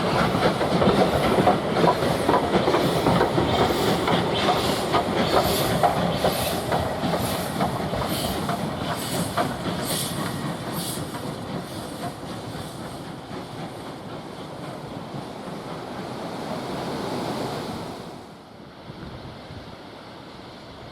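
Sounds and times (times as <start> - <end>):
train running on the line: 0.0 - 20.9.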